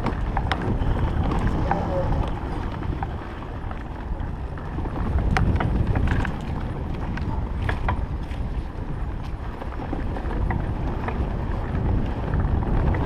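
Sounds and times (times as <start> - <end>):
bike rattling over bumps: 0.0 - 13.0
electric motorbike rumble: 0.0 - 13.0
wind on microphone: 0.0 - 13.0.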